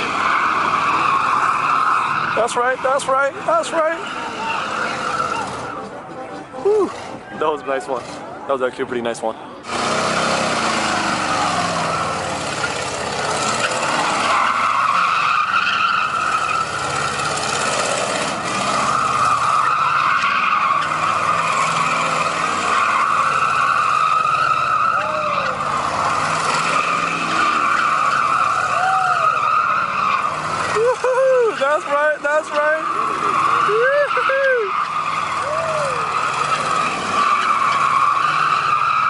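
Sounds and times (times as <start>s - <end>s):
car tires squealing: 0.0s - 8.4s, 9.6s - 39.0s.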